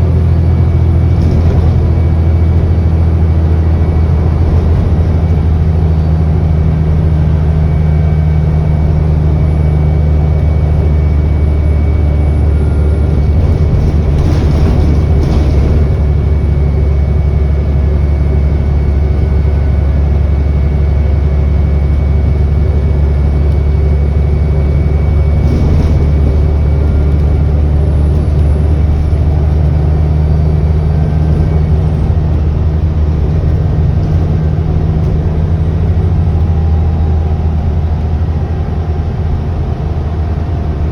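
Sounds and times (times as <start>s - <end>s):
bus engine drone: 0.0s - 40.9s
high turbo whine: 0.0s - 40.9s.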